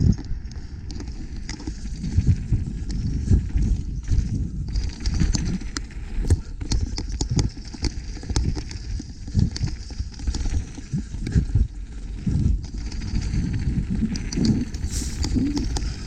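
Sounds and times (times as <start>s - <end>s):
clicks and knocks from bike: 0.0s - 16.0s
wind rumble on microphone: 0.0s - 16.0s
mountain bike clattering: 0.6s - 16.0s.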